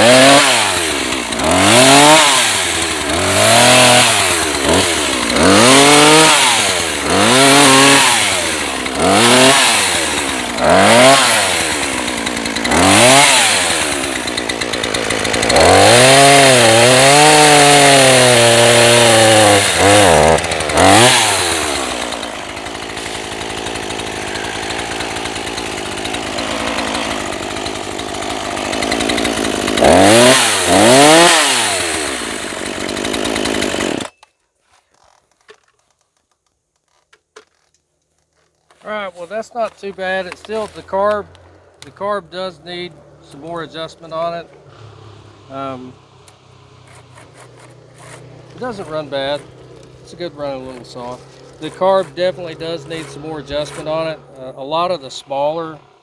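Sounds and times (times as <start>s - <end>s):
chainsaw revving and idling: 0.0s - 34.1s, 37.6s - 56.0s.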